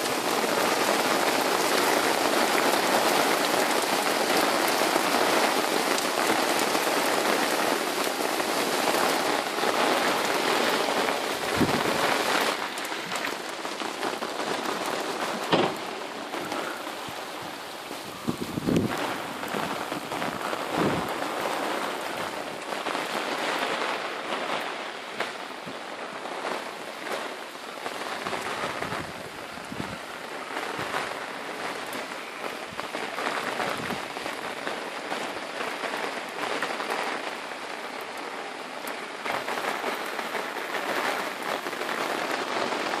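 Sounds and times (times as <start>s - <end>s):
heavy rain pouring: 0.0s - 43.0s
sharp raindrop hits: 0.0s - 43.0s.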